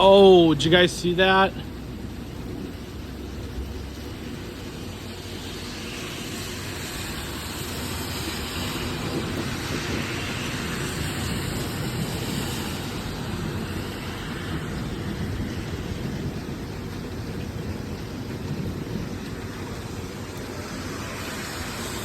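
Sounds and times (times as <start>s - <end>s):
rolling thunder rumbling: 0.0s - 22.0s
steady hiss: 0.0s - 22.0s.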